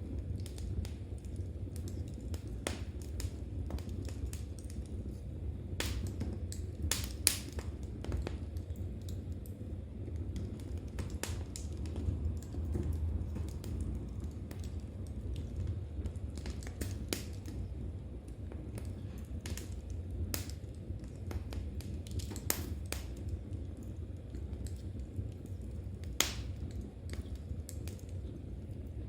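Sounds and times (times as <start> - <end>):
low steady rumble: 0.0 - 29.0
wood fire crackling: 0.0 - 29.0.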